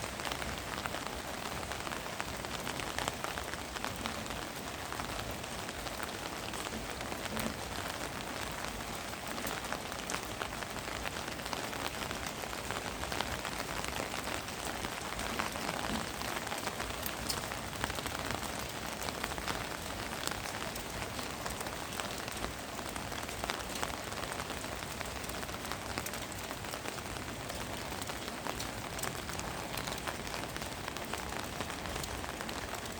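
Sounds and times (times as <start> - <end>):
rain hiss: 0.0 - 32.9.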